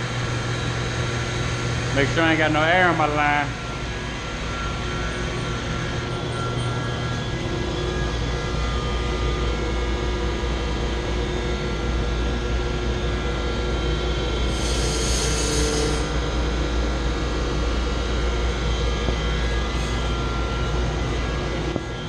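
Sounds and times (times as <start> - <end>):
water pump humming: 0.0 - 22.0.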